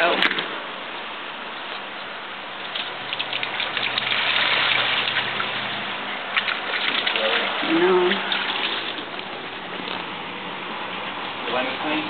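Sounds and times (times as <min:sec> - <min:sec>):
rain on a wooden deck: 0:00.0 - 0:12.0
puppies splashing in water: 0:01.6 - 0:11.7.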